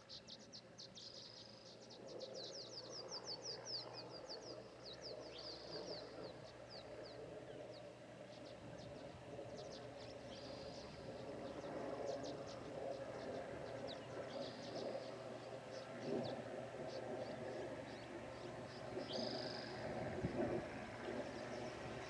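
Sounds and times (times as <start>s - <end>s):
propeller plane droning overhead: 0.0s - 22.0s
small birds chirping: 0.0s - 22.0s.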